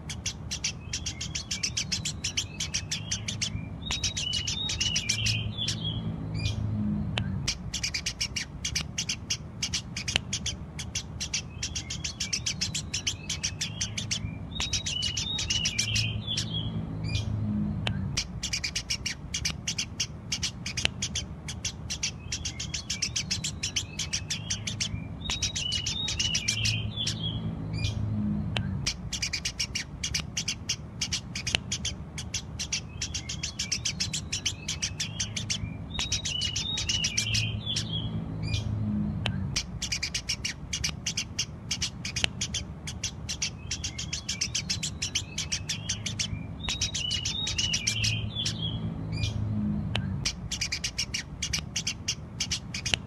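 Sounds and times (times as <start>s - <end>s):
sparrow chirping: 0.0s - 53.0s
steady low hum: 0.0s - 53.0s.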